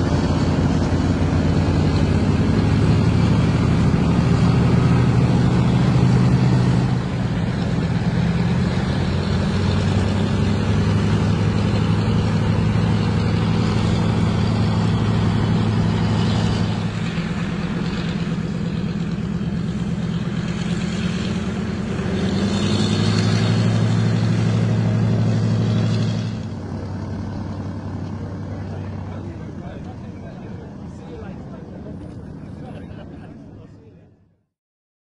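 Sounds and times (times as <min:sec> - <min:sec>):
propeller plane engines droning: 0:00.0 - 0:34.4.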